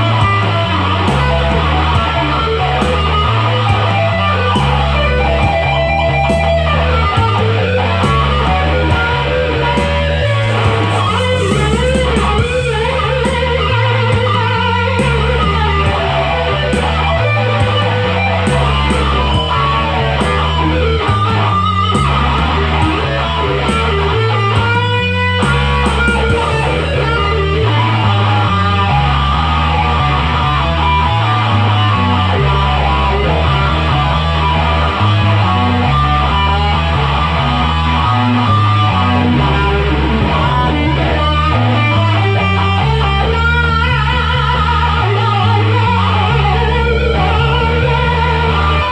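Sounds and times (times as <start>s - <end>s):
bass line: 0.0s - 48.9s
electric guitar rock music: 0.0s - 48.9s.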